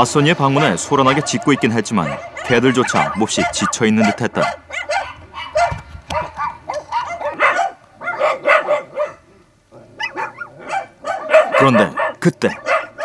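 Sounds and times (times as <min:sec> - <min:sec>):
dogs barking and yelping: 0:00.0 - 0:13.0.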